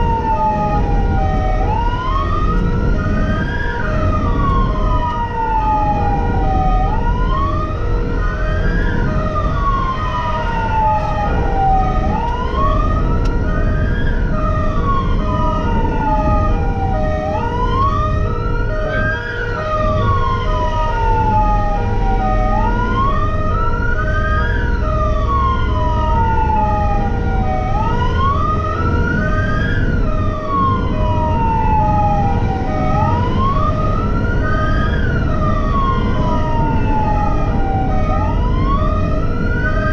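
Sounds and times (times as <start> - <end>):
emergency siren wailing: 0.0 - 39.9
engine and road noise: 0.0 - 39.9
pulsing second siren tone: 0.0 - 39.9.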